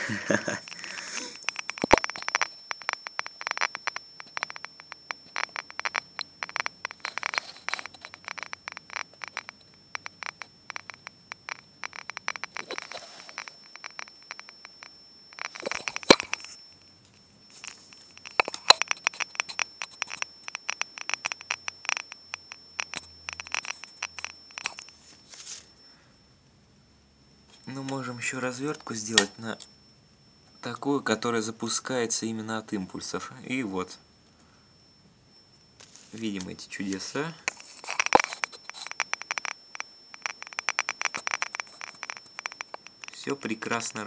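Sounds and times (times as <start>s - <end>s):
radiation detector clicks: 0.0s - 25.1s, 27.5s - 29.8s, 36.1s - 44.0s
faint high whine: 0.0s - 44.0s.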